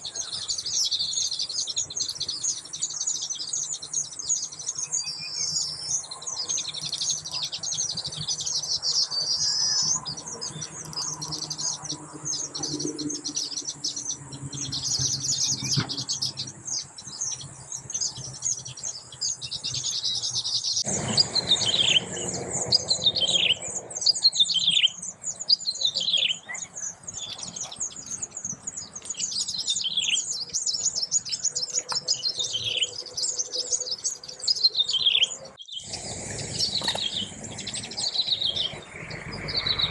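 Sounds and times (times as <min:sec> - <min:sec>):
birds twittering chorus: 0:00.0 - 0:39.9.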